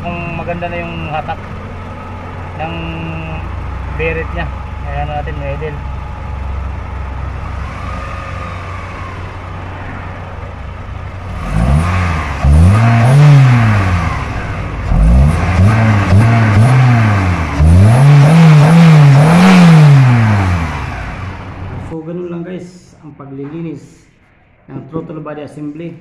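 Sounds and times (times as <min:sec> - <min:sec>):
car engine idling: 0:00.0 - 0:22.0
engine revving: 0:00.0 - 0:22.0.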